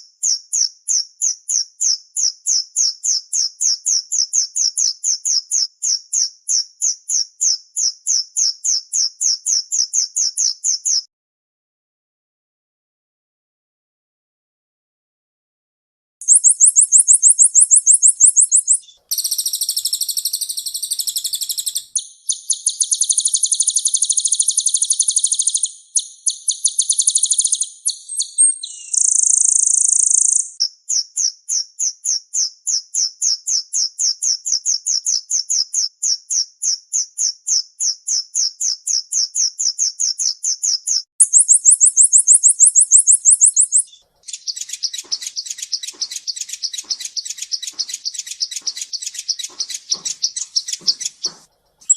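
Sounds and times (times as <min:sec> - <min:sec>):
bird singing fast trills: 0:00.0 - 0:11.1, 0:16.2 - 0:51.9.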